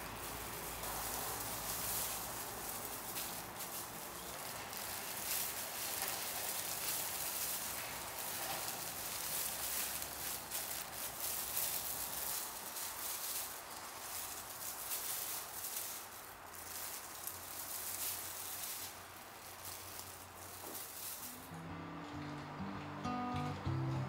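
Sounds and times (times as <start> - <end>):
plastic wrap crinkling: 0.0 - 21.6.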